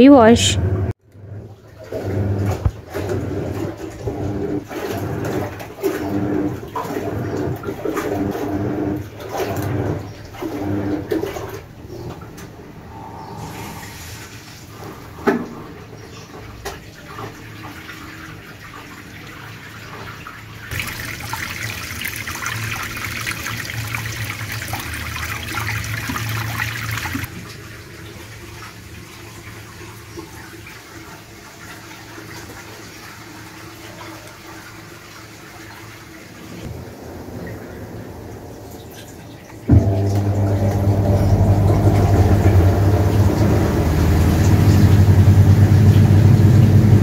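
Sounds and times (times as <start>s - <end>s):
washing machine humming: 0.0s - 47.0s
drain water gushing: 1.0s - 47.0s.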